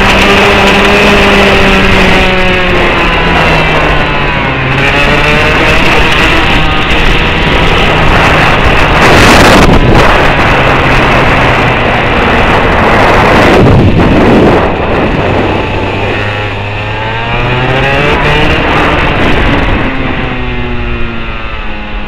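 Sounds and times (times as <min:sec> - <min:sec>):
engine revving: 0:00.0 - 0:22.0
loud rushing noise: 0:00.0 - 0:22.0.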